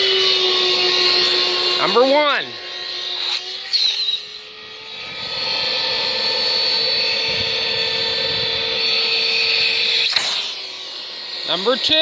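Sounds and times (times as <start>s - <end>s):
shop vac high-pitched whine: 0.0s - 12.0s.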